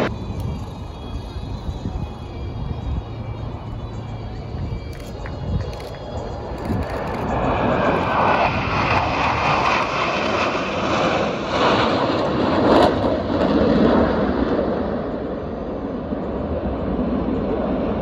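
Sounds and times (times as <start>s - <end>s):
fighter jets passing: 0.0s - 18.0s.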